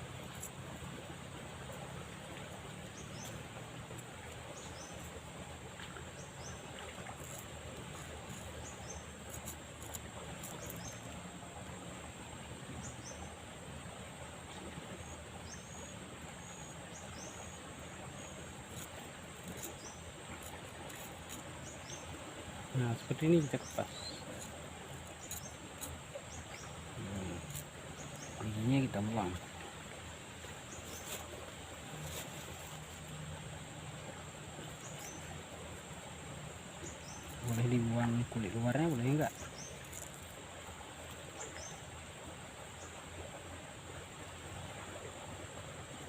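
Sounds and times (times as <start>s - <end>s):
high insect drone: 0.0s - 46.0s.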